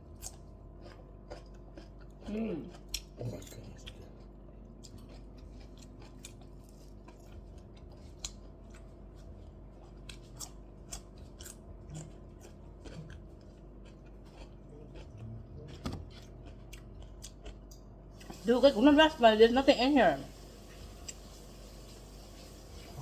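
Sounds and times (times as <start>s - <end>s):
chewing and eating: 0.0s - 18.4s, 20.3s - 23.0s
faint low hum: 0.0s - 23.0s.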